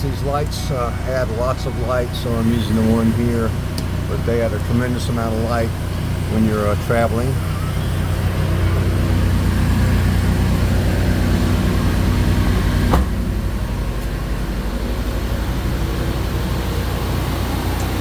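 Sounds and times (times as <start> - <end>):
generator and engine drone: 0.0 - 18.0.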